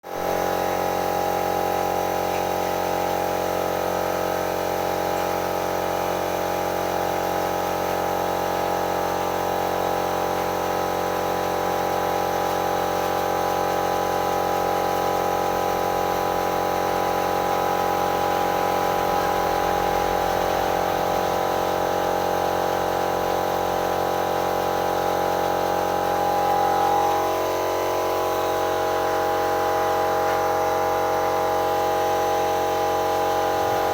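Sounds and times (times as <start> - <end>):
pressure washer pump running: 0.0 - 33.9.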